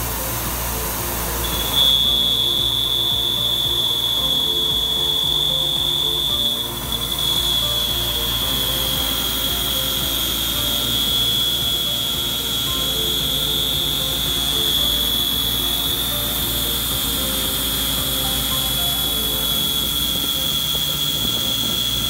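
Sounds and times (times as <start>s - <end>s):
high-pitched whine: 0.0s - 22.0s
milling machine cutting metal: 0.0s - 22.0s.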